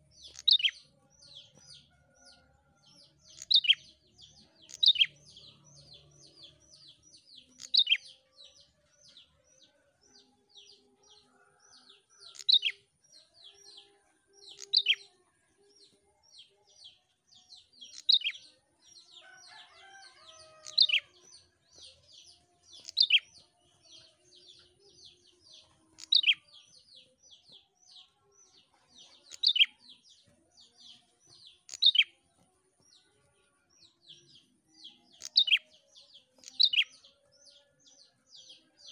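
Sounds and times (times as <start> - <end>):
bird singing high chirps: 0.0 - 2.4, 3.2 - 10.9, 11.9 - 15.2, 16.4 - 38.9.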